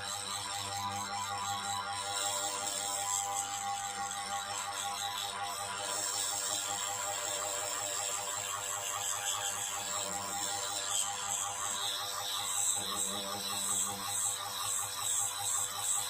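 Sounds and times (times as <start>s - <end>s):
small drill grinding: 0.0s - 16.0s.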